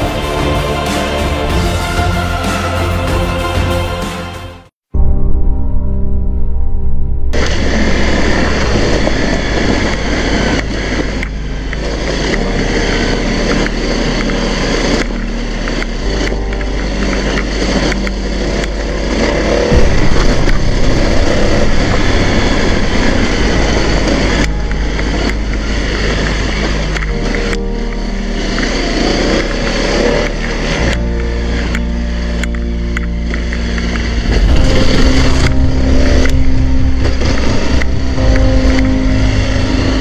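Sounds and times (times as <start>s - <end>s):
wind rush on microphone: 7.3s - 40.0s.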